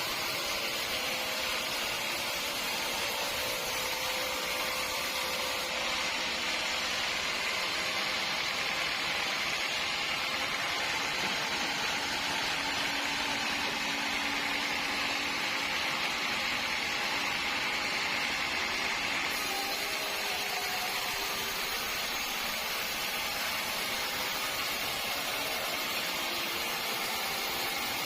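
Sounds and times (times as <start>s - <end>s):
sawmill machinery running: 0.0s - 28.0s.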